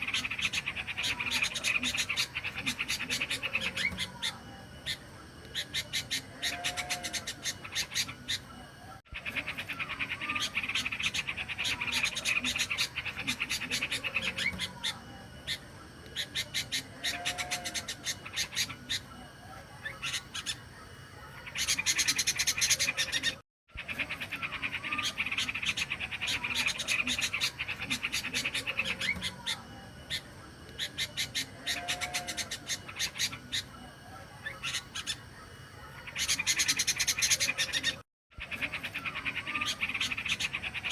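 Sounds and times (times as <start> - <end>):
rapid high chirping: 0.0 - 20.7, 21.4 - 40.9.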